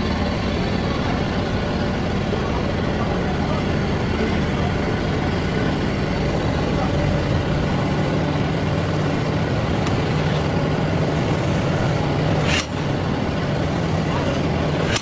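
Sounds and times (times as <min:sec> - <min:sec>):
heavy engine idling: 0:00.0 - 0:15.0.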